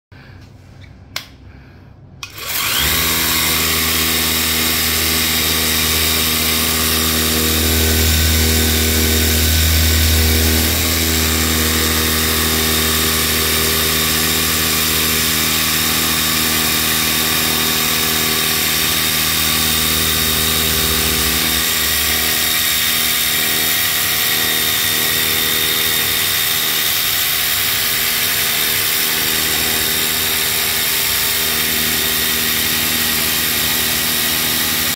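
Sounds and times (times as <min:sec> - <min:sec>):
pressure washer motor hum: 0:02.2 - 0:34.9.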